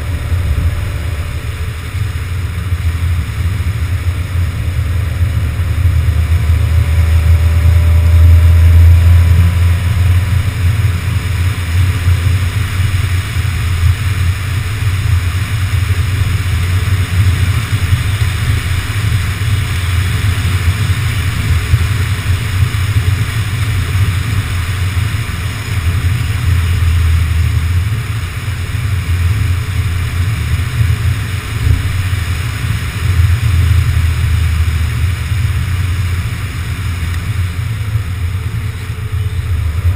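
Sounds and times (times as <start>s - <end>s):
road and engine noise: 0.0s - 39.9s
wind buffeting microphone: 0.0s - 39.9s.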